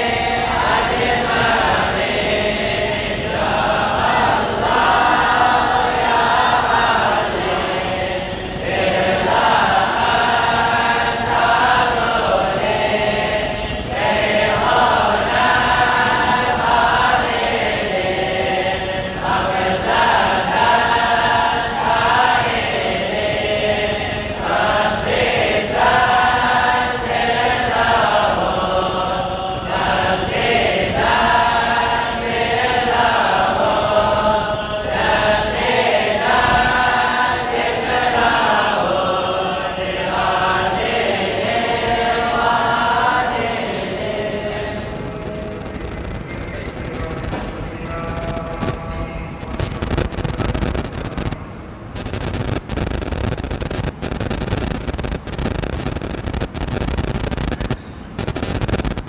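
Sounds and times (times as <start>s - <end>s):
group chanting in unison: 0.0s - 49.2s.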